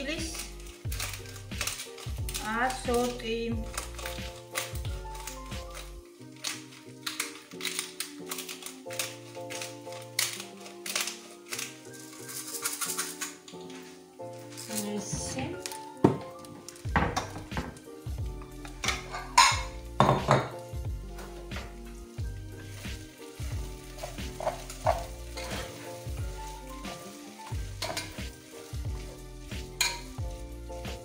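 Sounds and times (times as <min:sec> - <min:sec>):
background music: 0:00.0 - 0:31.0.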